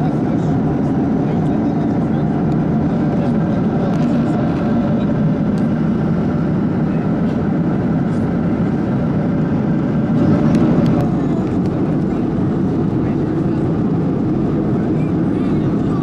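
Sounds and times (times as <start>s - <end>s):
jet engines droning: 0.0s - 16.0s.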